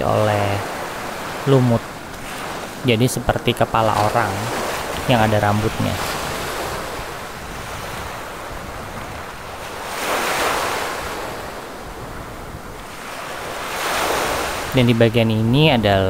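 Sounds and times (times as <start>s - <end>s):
surf breaking on stony beach: 0.0s - 15.3s
wind rumble on microphone: 0.6s - 16.0s.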